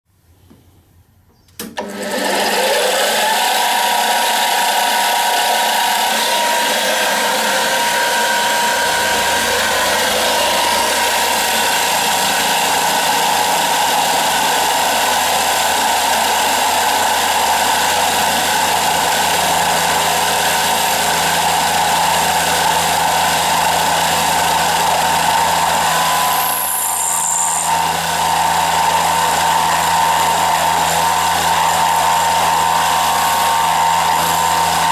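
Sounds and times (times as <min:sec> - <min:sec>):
milling machine cutting whine: 0:01.8 - 0:34.9.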